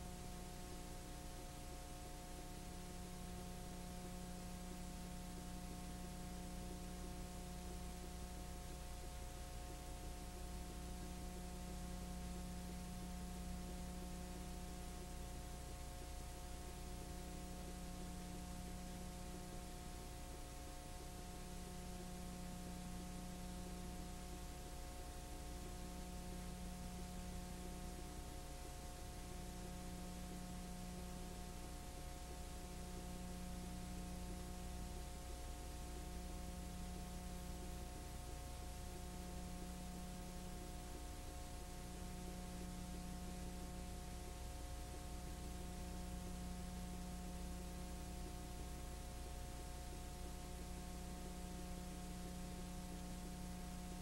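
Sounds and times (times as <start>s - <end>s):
electrical hum with hiss: 0.0s - 54.0s.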